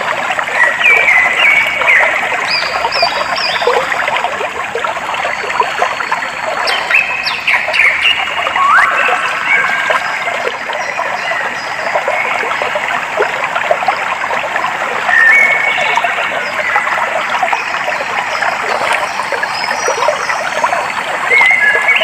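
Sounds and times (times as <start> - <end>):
water trickling and babbling: 0.0 - 22.0.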